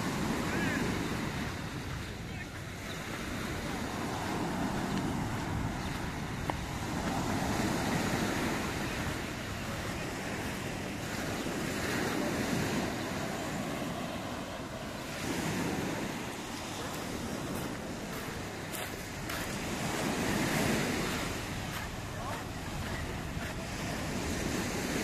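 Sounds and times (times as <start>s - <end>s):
waves breaking on pebble beach: 0.0s - 25.0s
wind: 0.0s - 25.0s.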